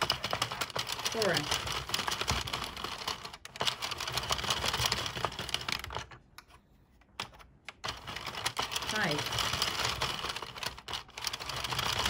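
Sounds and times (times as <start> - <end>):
knitting machine needles clicking: 0.0 - 6.2, 7.2 - 12.0.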